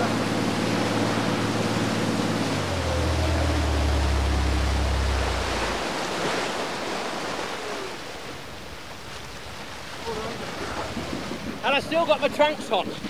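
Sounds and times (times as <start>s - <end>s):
boat engine droning: 0.0s - 13.0s
rushing churning water: 0.0s - 13.0s.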